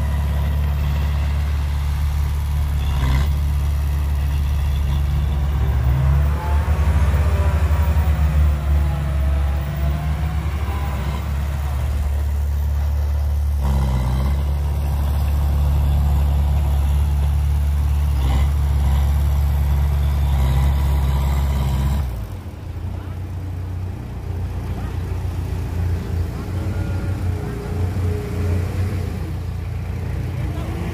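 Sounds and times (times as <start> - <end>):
diesel truck engine running: 0.0 - 30.9.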